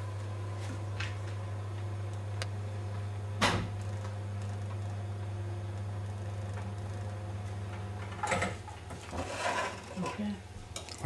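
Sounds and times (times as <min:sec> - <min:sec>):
potter's wheel humming: 0:00.0 - 0:11.0.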